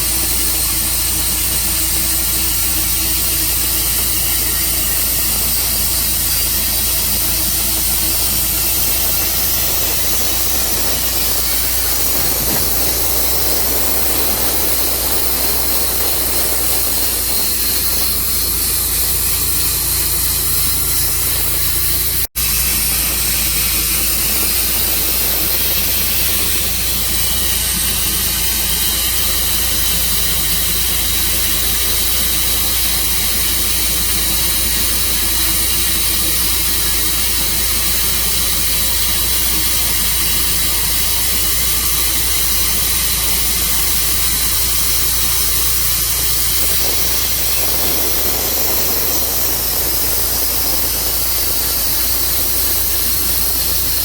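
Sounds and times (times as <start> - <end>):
engine running: 0.0 - 54.0
loud even hiss: 0.0 - 54.0
rough mid-range noise: 0.0 - 54.0.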